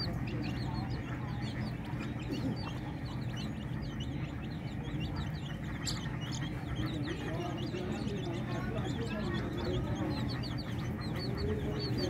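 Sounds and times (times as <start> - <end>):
chicks peeping: 0.0 - 12.0
steady low hum: 0.0 - 12.0.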